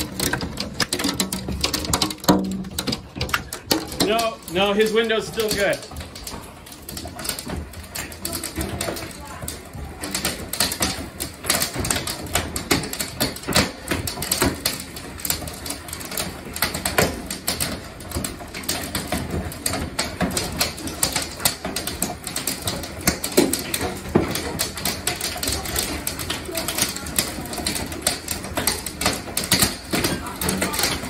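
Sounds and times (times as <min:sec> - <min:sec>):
hailstones pounding a house: 0:00.0 - 0:31.0.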